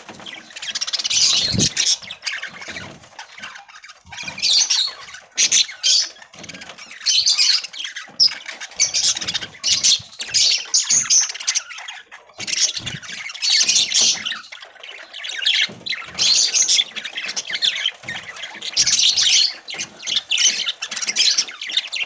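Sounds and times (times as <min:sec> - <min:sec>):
budgerigars chattering and chirping: 0:00.0 - 0:22.0.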